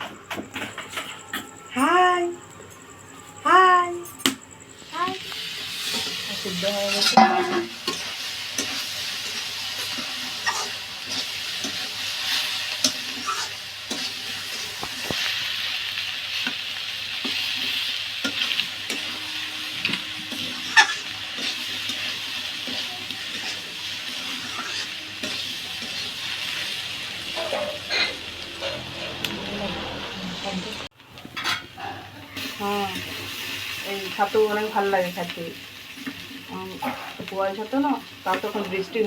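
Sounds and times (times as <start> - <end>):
vegetables sizzling in oil: 4.6 - 39.0.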